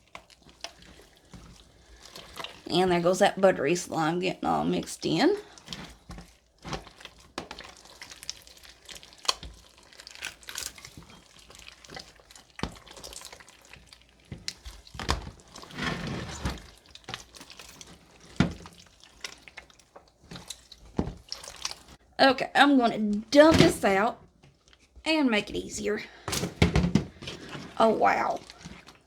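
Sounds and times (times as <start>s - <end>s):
slime squelching: 0.0s - 26.3s, 27.1s - 29.0s.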